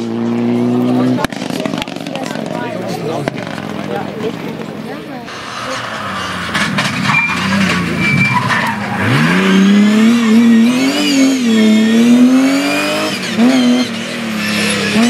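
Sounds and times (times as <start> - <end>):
car engine revving: 0.0 - 15.0
tyres scrabbling and skidding: 1.1 - 15.0.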